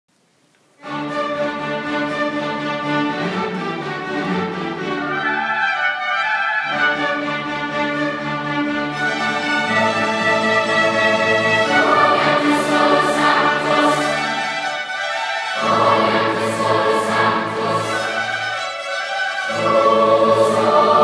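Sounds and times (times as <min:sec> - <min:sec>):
orchestra playing sustained chords: 0:00.8 - 0:21.0.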